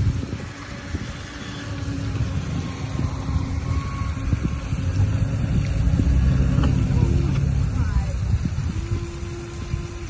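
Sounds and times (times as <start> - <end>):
faint steady hum: 0.0 - 10.0
wind rumbling on microphone: 0.0 - 10.0.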